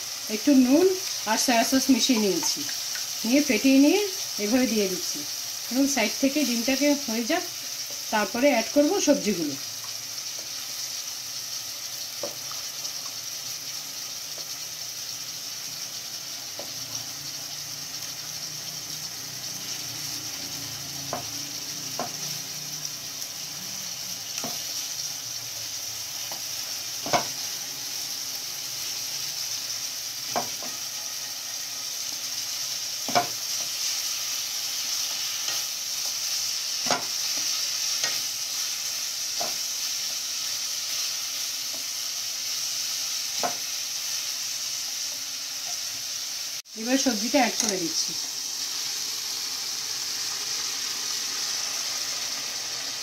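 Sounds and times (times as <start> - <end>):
egg sizzling in hot oil: 0.0 - 53.0.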